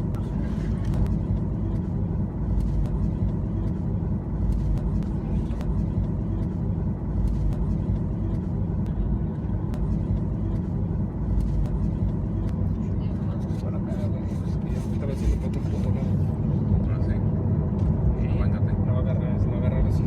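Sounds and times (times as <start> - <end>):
airliner low rumble: 0.0 - 20.0.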